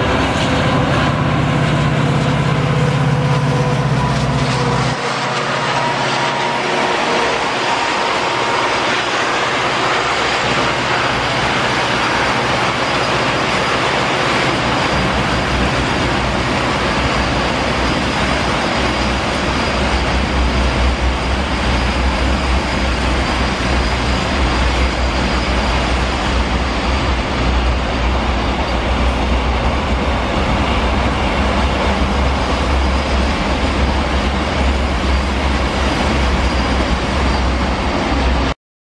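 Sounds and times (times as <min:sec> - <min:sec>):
train wheels on rail: 0:00.0 - 0:38.6.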